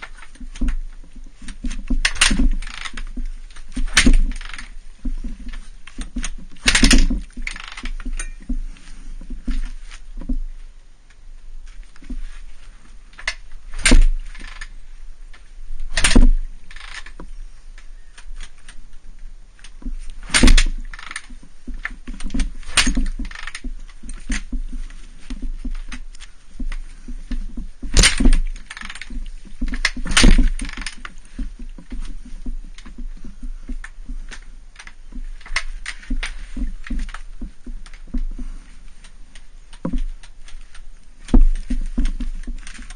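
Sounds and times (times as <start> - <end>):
dirt bike kickstarter thuds: 0.0 - 10.5, 13.2 - 14.7, 15.9 - 17.3, 19.7 - 38.8, 39.7 - 42.9.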